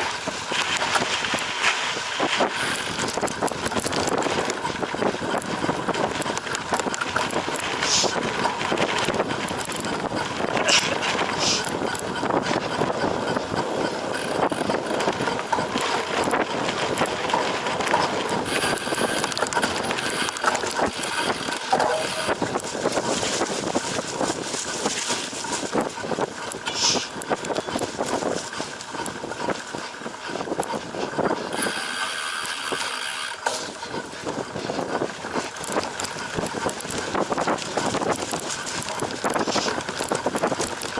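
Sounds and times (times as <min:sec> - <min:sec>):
bike rattling: 0:00.0 - 0:40.9
bike tyres on rough ground: 0:00.0 - 0:40.9.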